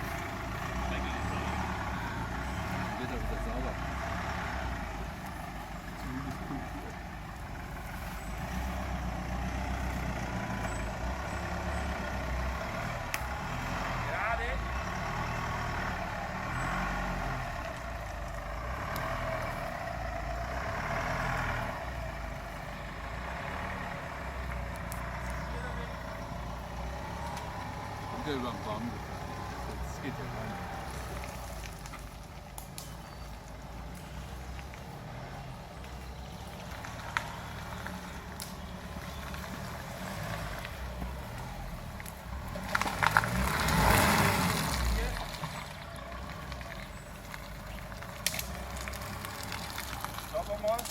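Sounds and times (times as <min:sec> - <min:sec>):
off-road vehicle engine running: 0:00.0 - 0:50.9.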